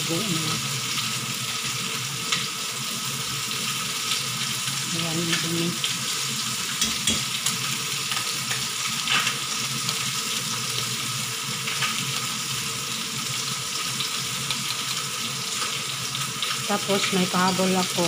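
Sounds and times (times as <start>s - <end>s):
soup boiling hard: 0.0s - 18.0s.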